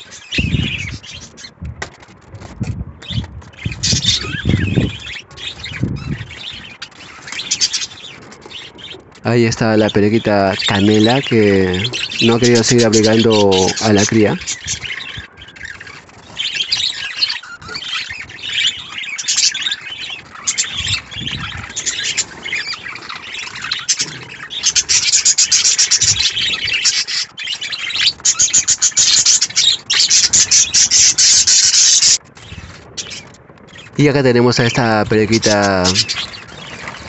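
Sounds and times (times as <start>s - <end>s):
budgerigars chattering and chirping: 0.0s - 1.6s, 3.0s - 37.0s.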